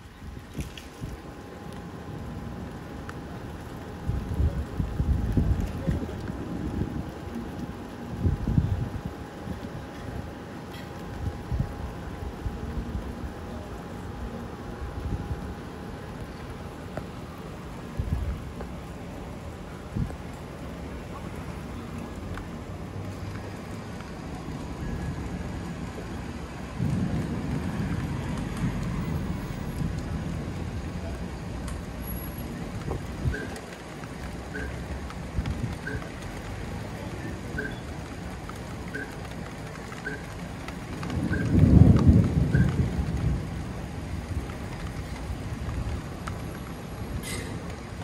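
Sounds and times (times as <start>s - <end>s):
rain hiss: 0.0s - 48.0s
storm background noise: 0.0s - 48.0s
thunder rumbling: 0.0s - 48.0s.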